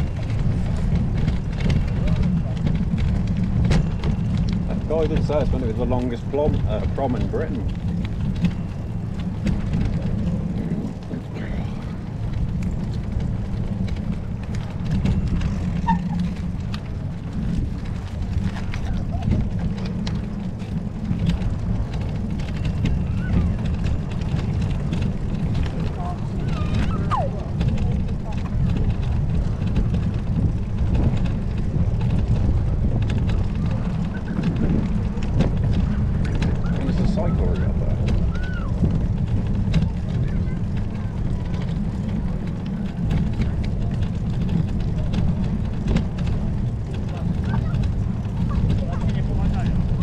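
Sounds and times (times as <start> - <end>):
bicycle clicks and rattles: 0.0 - 50.0
wind buffeting microphone: 0.0 - 50.0.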